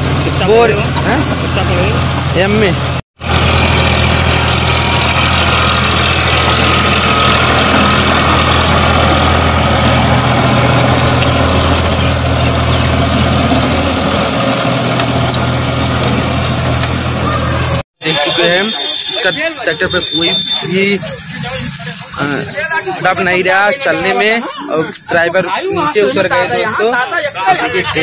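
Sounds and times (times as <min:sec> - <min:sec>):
tractor engine under load: 0:00.0 - 0:28.0.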